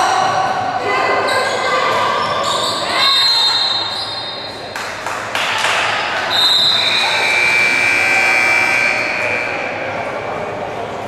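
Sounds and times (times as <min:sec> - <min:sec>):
echoing gym noise: 0:00.0 - 0:11.0.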